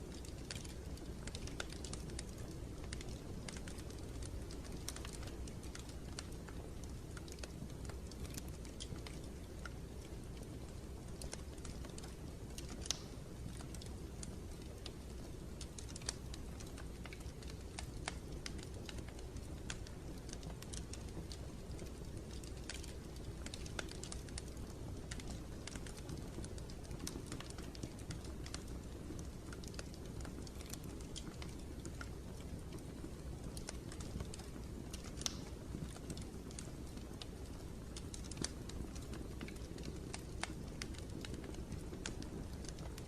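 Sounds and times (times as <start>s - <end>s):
light irregular clicks and taps: 0.0s - 43.0s.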